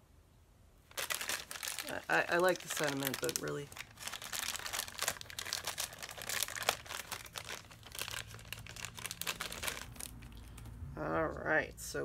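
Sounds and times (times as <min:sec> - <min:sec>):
plastic bag crinkling: 0:00.9 - 0:10.8.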